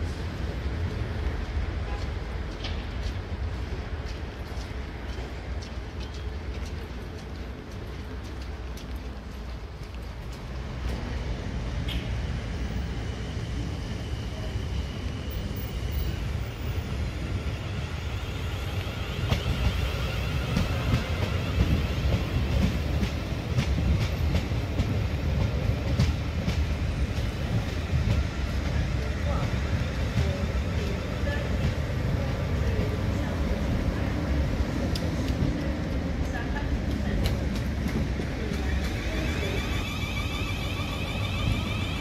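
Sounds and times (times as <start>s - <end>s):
train rumble passing: 0.0s - 42.0s.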